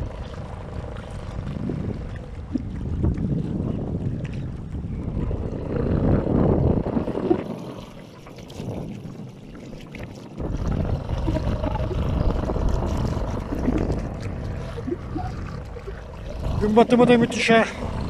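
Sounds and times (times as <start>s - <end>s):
low rumble: 0.0s - 9.4s, 10.3s - 18.0s
choppy river water: 0.0s - 18.0s
wind buffeting microphone: 0.0s - 18.0s.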